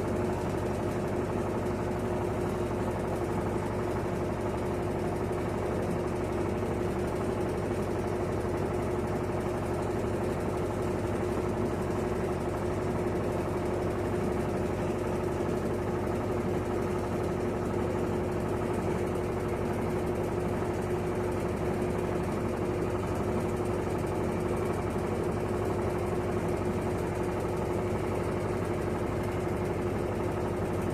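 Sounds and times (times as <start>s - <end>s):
washing machine spinning: 0.0s - 30.9s.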